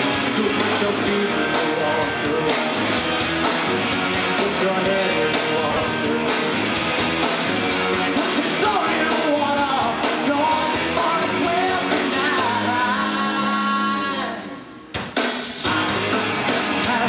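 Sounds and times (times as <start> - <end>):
rock band playing live: 0.0 - 17.0
strummed guitars: 0.0 - 17.0.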